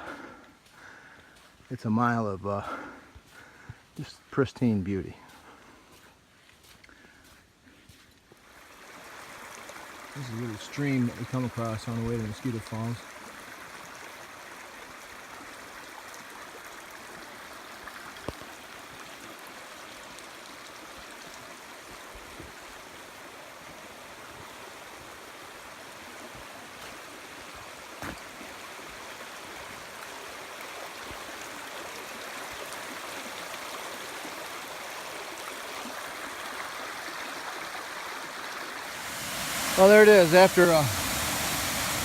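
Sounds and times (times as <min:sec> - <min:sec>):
stream running over rocks: 0:00.0 - 0:42.0.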